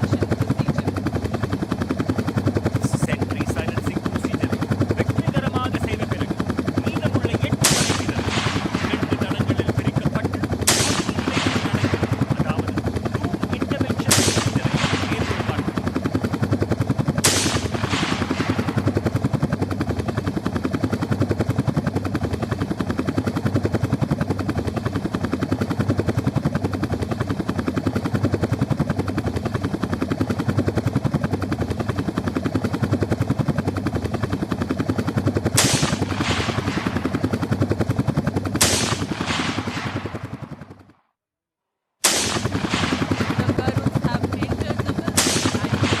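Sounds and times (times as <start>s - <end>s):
helicopter rotor chopping: 0.0s - 41.2s, 42.0s - 46.0s.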